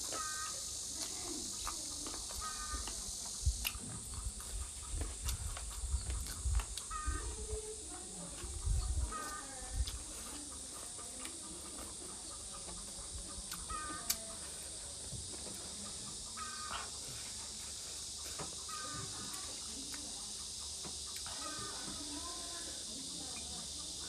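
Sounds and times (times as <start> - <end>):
steady hiss: 0.0 - 10.4, 13.4 - 24.0
chickens clucking: 0.0 - 24.0.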